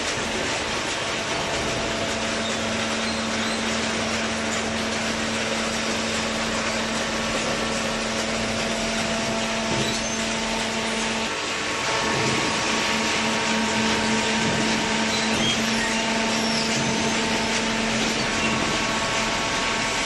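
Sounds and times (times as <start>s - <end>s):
baler machine running: 0.0s - 20.0s
machine hum: 0.0s - 20.0s.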